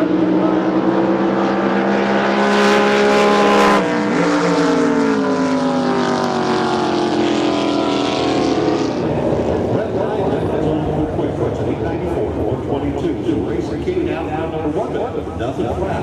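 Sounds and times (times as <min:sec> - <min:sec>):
racing boat engine running hard: 0:00.0 - 0:16.0.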